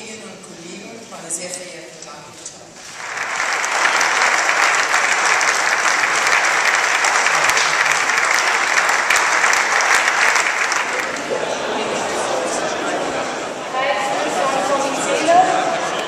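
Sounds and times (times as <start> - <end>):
crowd applauding: 2.8 - 16.0.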